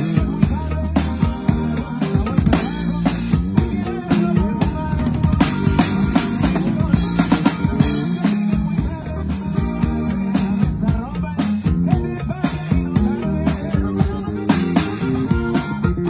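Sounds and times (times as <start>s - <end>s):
bass line: 0.0s - 16.0s
drum kit playing: 0.0s - 16.0s
pitched instruments: 0.0s - 16.0s.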